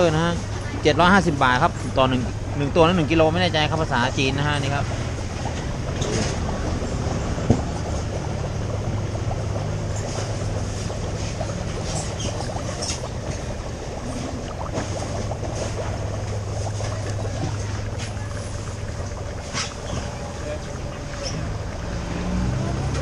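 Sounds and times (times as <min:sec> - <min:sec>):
steady rush of noise: 0:00.0 - 0:23.0
low hum: 0:01.4 - 0:23.0.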